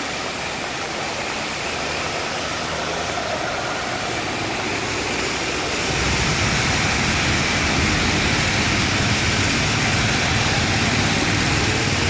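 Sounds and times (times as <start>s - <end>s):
rain and tyres hissing: 0.0s - 12.0s
vehicle engines rumbling: 0.0s - 12.0s.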